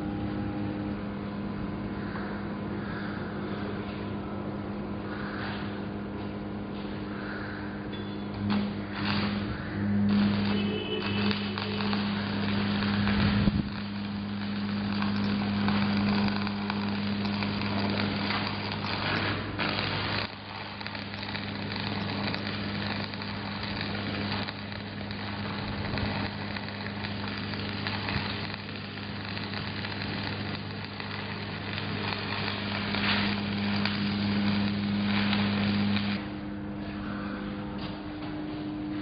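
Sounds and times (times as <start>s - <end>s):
low electrical hum: 0.0s - 39.0s
welding arc crackling: 5.0s - 39.0s.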